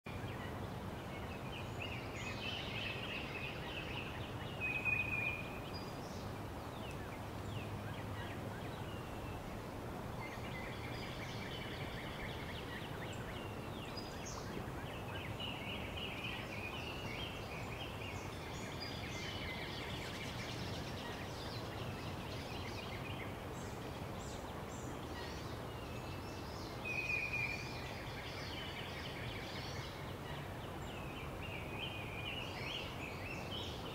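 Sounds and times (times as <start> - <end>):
bird calls and chirps: 0.1 - 33.9
steady background hiss: 0.1 - 33.9.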